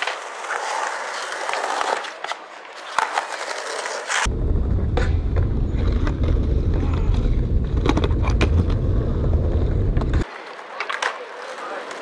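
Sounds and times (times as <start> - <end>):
skateboard wheels rolling on stone: 0.0 - 12.0.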